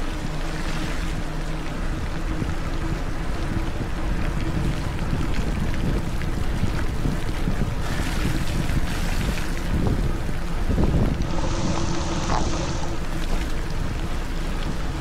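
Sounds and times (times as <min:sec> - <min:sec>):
wind buffeting microphone: 0:01.8 - 0:15.0.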